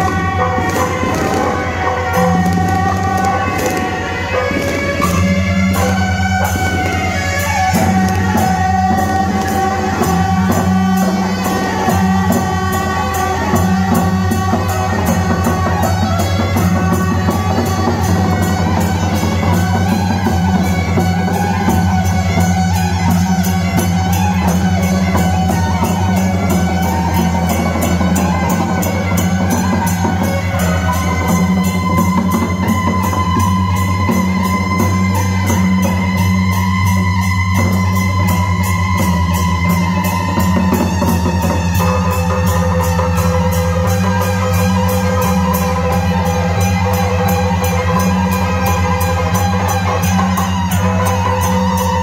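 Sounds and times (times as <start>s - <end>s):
loud music with fast drum beat: 0.0s - 52.0s.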